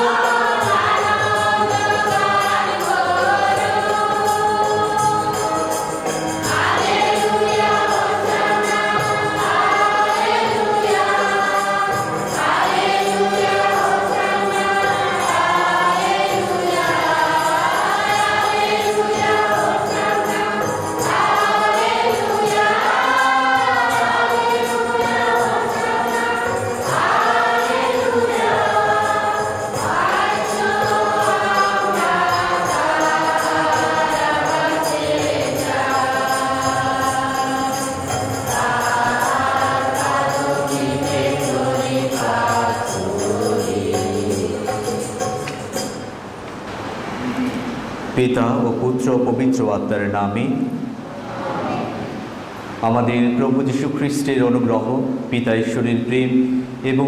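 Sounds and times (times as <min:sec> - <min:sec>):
church choir singing a hymn: 0:00.0 - 0:49.6, 0:50.4 - 0:57.0.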